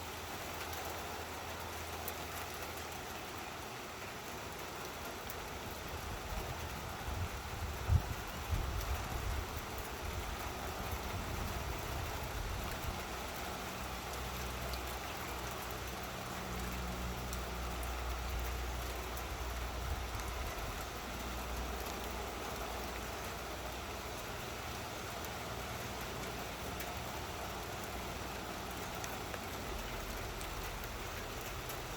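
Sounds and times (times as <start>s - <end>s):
steady rain: 0.0s - 31.9s.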